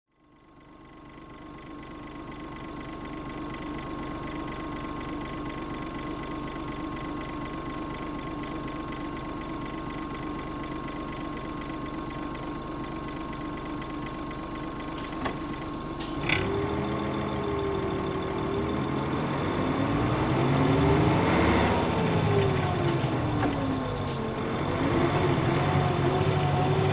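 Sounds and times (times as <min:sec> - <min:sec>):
bus diesel engine: 0:00.8 - 0:26.9.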